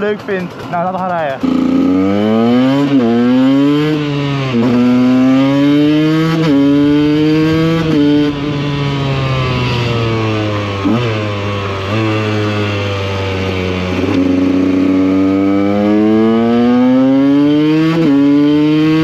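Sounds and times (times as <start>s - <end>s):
two-stroke motorbike accelerating: 0.0s - 19.0s.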